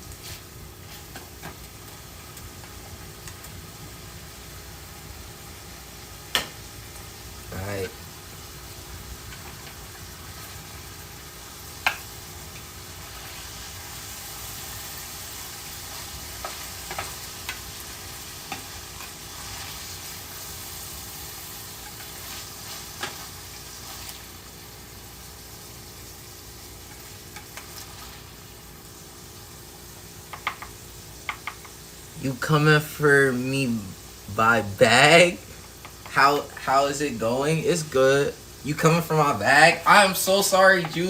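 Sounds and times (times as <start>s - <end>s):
food sizzling in a frying pan: 0.0s - 41.0s.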